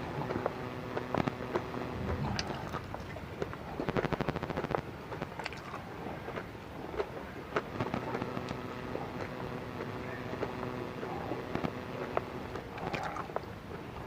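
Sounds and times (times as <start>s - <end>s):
seeds crunched and chewed: 0.1s - 13.8s.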